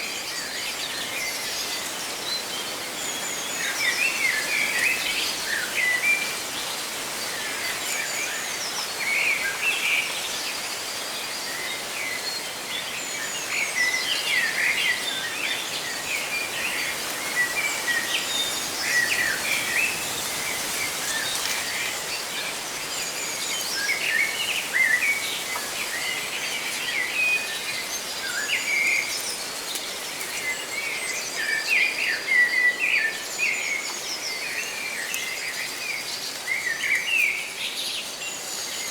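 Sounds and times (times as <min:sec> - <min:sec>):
leaves rustling in wind: 0:00.0 - 0:38.9.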